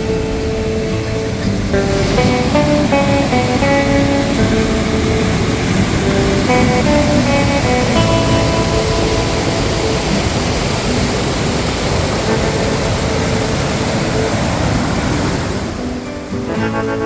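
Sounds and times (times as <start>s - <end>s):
acoustic guitar music: 0.0s - 17.0s
waterfall rushing: 0.0s - 17.0s.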